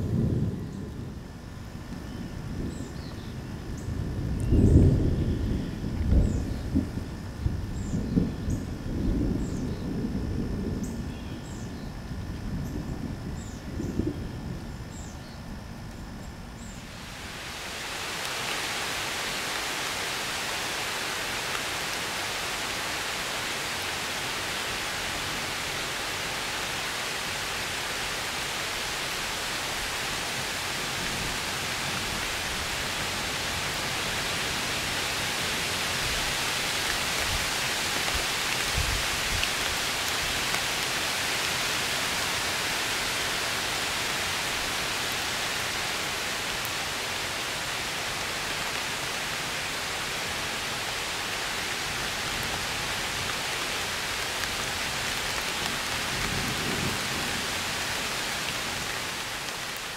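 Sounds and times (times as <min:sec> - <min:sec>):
heavy rain on trees: 0:00.0 - 0:59.9.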